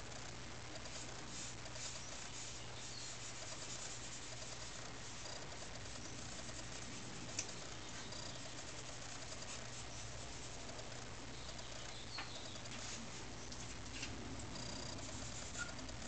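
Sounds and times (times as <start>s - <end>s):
faint scratches: 0.0s - 16.0s
low hum and hiss: 0.0s - 16.0s.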